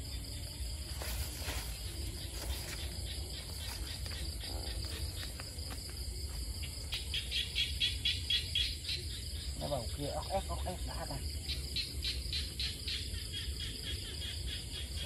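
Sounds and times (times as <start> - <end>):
insect chorus: 0.0 - 15.0
rapidly pulsing insect chirp: 0.0 - 15.0.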